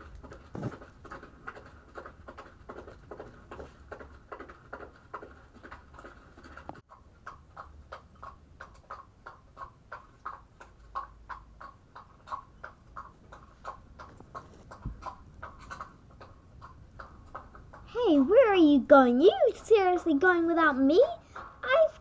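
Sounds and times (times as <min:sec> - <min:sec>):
imitated hoofbeats clip-clop: 0:00.0 - 0:22.0.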